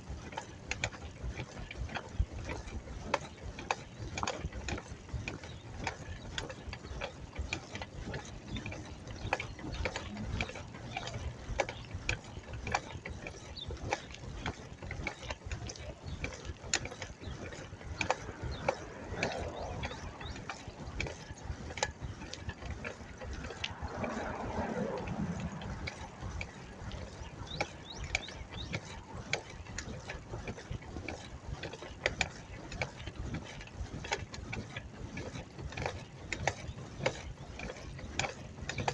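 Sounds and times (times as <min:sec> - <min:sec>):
bicycle freewheel ticking: 0:00.0 - 0:38.9.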